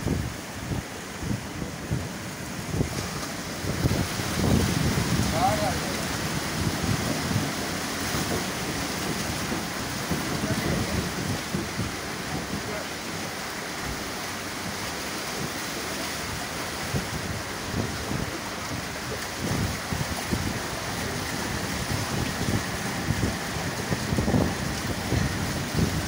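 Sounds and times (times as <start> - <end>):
floodwater churning and splashing: 0.0 - 26.0
train moving through water: 0.0 - 26.0
wind buffeting microphone: 0.0 - 26.0.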